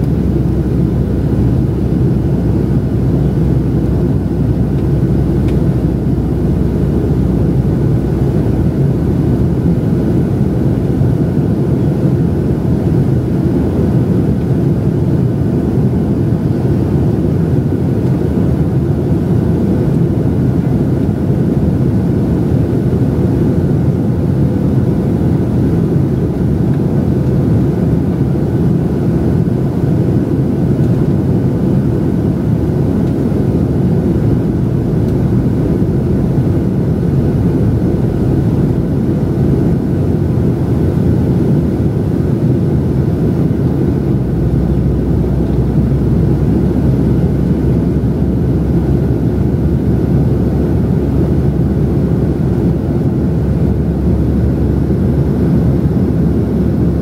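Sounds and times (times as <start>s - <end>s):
airplane cabin rumble: 0.0s - 57.0s
faint steady whine: 0.0s - 57.0s.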